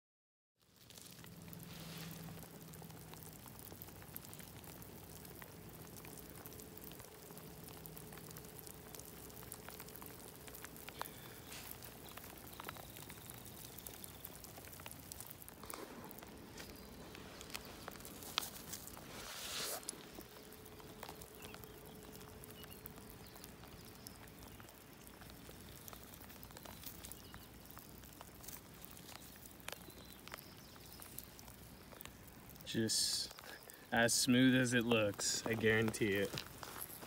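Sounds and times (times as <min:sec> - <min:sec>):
faint patter of small ticks: 0:00.6 - 0:37.0
soft steady hiss: 0:00.6 - 0:37.0.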